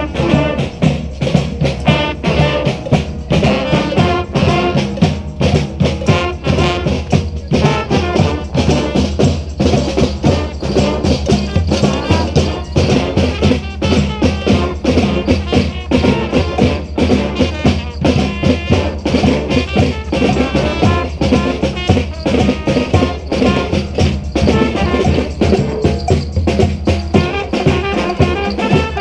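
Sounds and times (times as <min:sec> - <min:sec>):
brass band playing salsa: 0:00.0 - 0:29.0
drums and percussion: 0:00.0 - 0:29.0.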